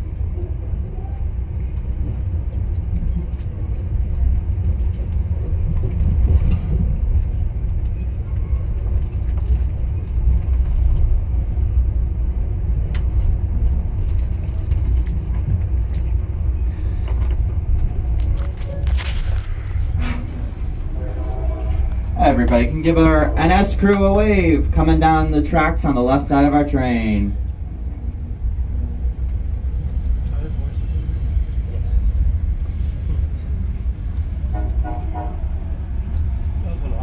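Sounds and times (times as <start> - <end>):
train rumble: 0.0 - 37.0.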